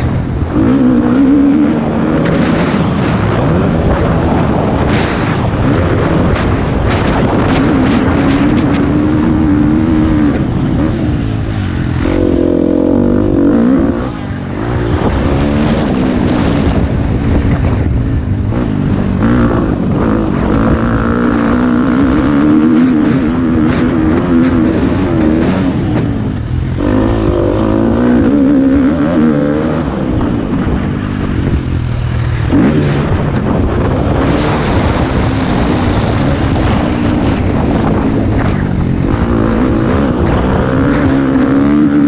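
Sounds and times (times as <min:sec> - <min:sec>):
motocross bike engine revving: 0:00.0 - 0:42.0
wind buffeting microphone: 0:00.0 - 0:42.0.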